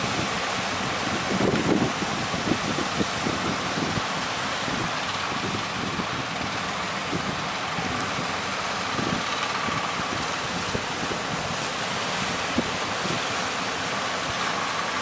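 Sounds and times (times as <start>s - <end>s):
wind gusting on microphone: 0.0s - 14.7s
sea surf: 0.0s - 15.0s.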